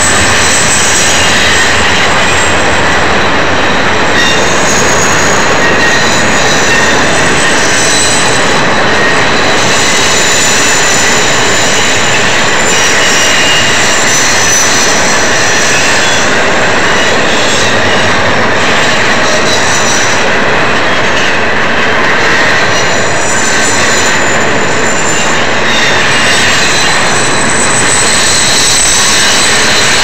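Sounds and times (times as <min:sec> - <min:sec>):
train wheels rushing on rail: 0:00.0 - 0:30.0
wheels squealing: 0:00.0 - 0:30.0.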